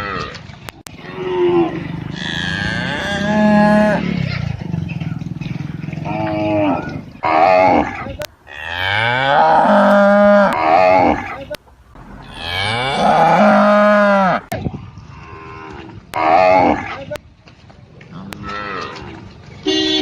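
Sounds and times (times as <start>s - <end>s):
cattle mooing: 0.0s - 17.0s, 18.1s - 19.2s.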